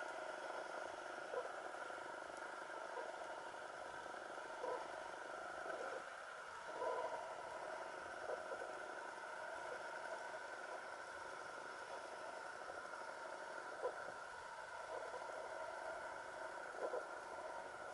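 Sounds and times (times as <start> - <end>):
muffled underwater hiss: 0.0 - 17.9
soft underwater gurgles: 0.0 - 17.9.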